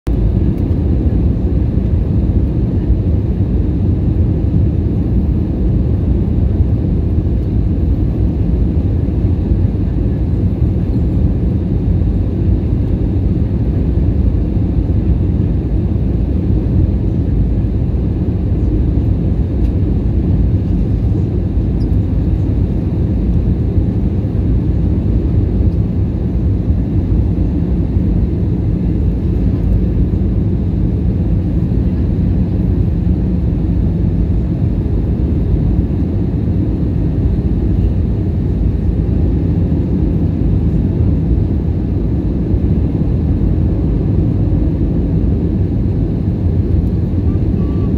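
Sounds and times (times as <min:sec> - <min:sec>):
airliner cabin rumble: 0:00.1 - 0:47.9.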